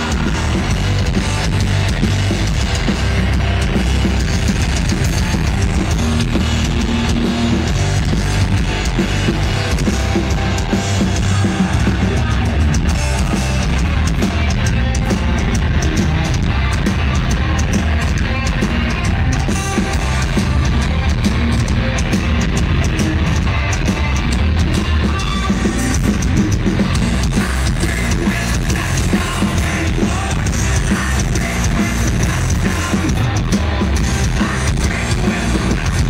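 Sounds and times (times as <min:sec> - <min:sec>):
live hard rock band: 0:00.0 - 0:36.0.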